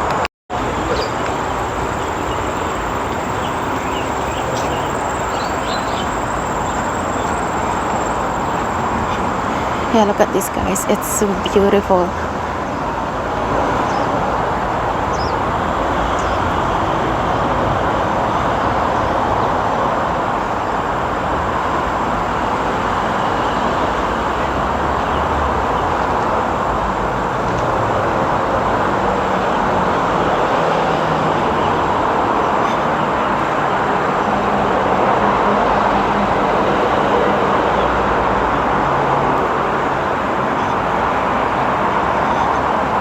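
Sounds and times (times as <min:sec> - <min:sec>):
road traffic roar: 0:00.0 - 0:43.0.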